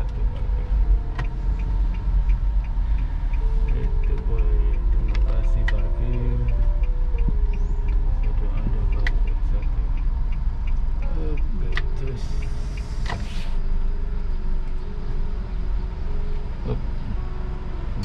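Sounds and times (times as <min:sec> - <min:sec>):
car engine rumble: 0:00.0 - 0:18.0.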